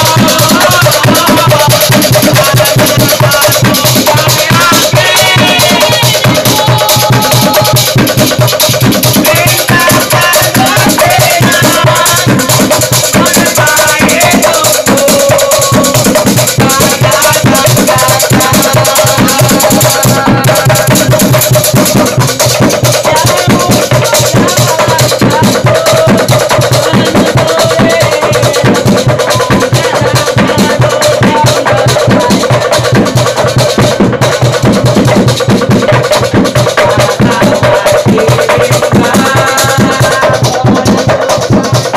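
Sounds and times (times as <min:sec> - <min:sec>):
hand drum beating: 0:00.0 - 0:41.9
wooden log drum beating: 0:00.0 - 0:41.9.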